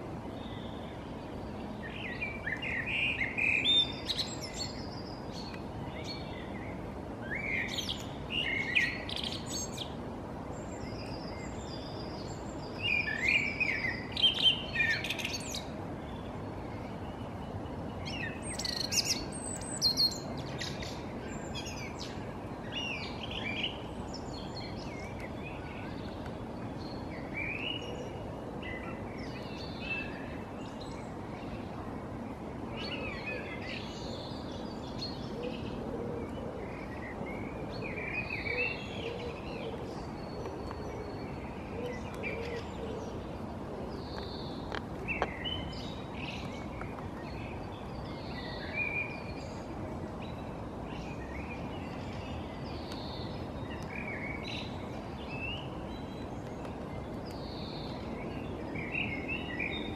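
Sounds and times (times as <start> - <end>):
songbirds singing: 0.0 - 59.9
steady background noise: 0.0 - 59.9.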